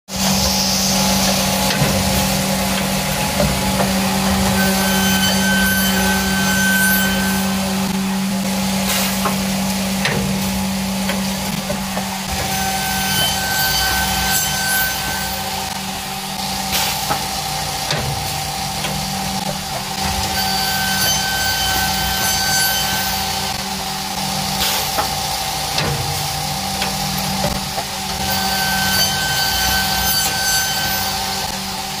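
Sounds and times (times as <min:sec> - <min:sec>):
machine hum with whine: 0:00.1 - 0:32.0.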